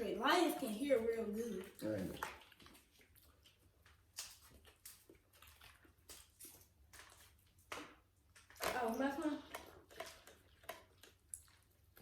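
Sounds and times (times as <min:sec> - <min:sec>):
person chewing food: 0:01.6 - 0:12.0.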